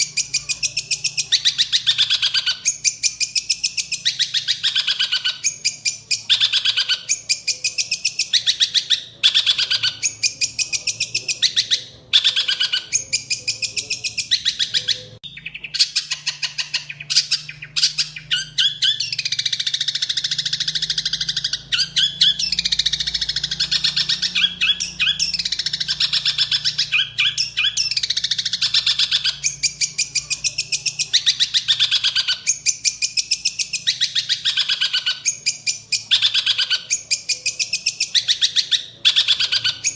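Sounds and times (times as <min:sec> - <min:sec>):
bird harsh chattering song: 0:00.0 - 0:39.9.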